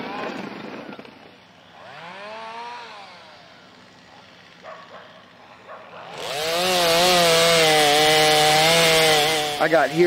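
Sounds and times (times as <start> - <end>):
chainsaw running at high speed: 1.6 - 10.0.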